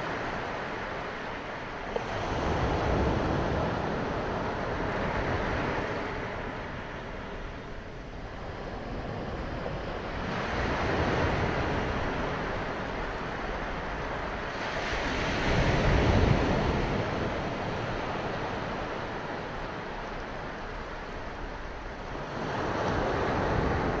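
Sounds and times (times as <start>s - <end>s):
waves breaking on shore: 0.0s - 24.0s.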